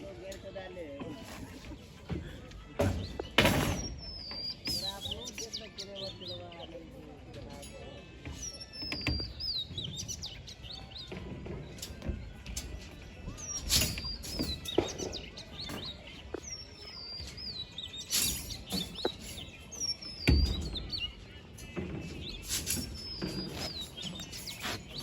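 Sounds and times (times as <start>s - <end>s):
bird whistling song: 3.0s - 6.8s, 8.3s - 25.0s.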